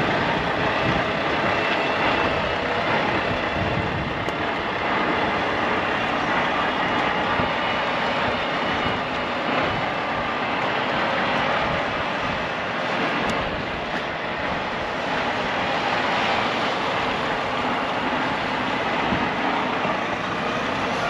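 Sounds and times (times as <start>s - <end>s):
truck diesel engine rumbling: 0.0s - 21.0s.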